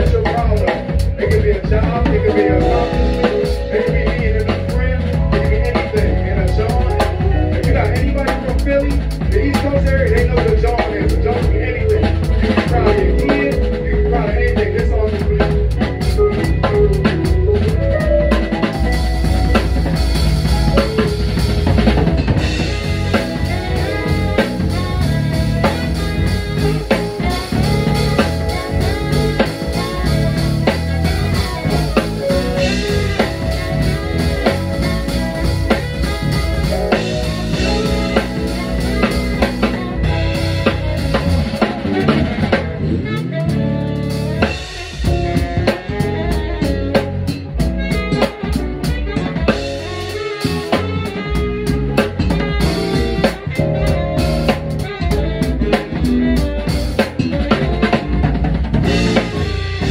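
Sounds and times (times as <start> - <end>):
drum kit: 0.0 - 59.9
live band playing: 0.0 - 59.9.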